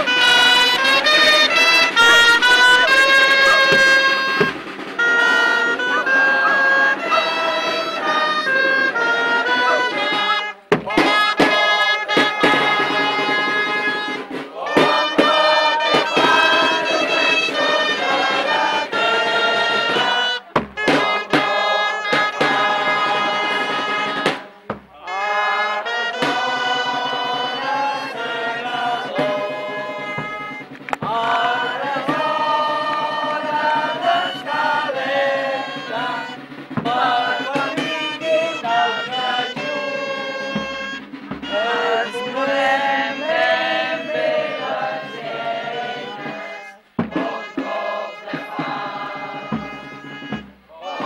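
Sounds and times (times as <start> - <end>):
group singing with accompaniment: 0.0 - 51.0.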